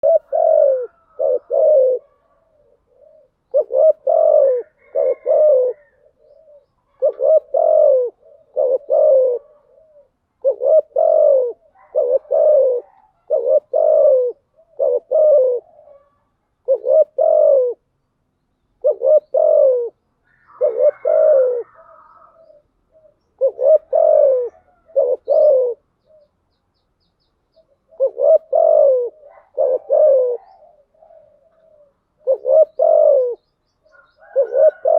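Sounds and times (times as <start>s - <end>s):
dove cooing: 0.0s - 17.9s, 18.7s - 26.4s, 27.5s - 34.9s.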